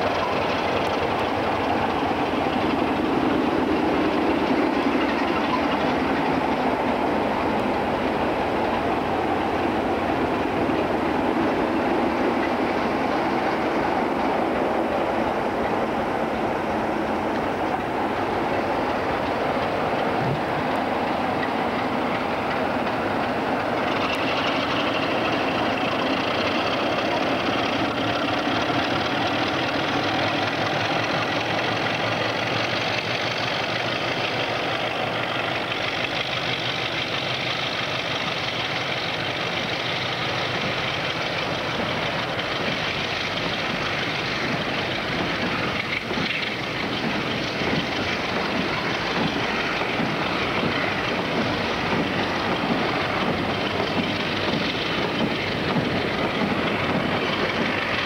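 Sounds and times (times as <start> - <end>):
diesel locomotive engines under load: 0.0 - 58.0
wagon wheels rumbling over track: 0.0 - 58.0.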